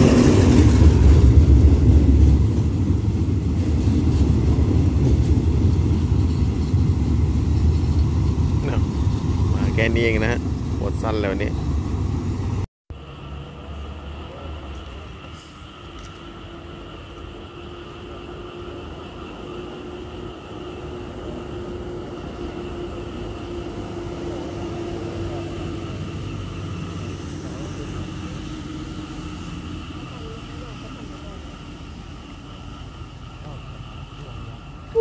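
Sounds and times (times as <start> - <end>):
distant diesel locomotive rumble: 0.0 - 35.0
held engine tone: 6.1 - 35.0.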